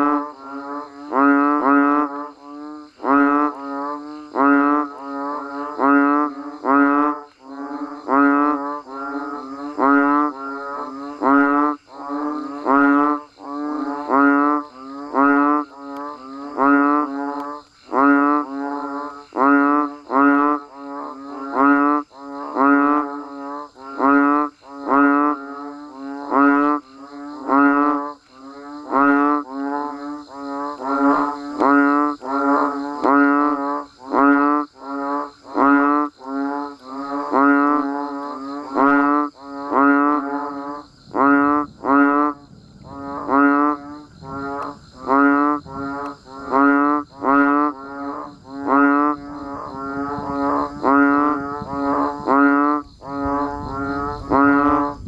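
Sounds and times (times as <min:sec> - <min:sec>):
frogs calling in chorus: 0:00.0 - 0:55.0.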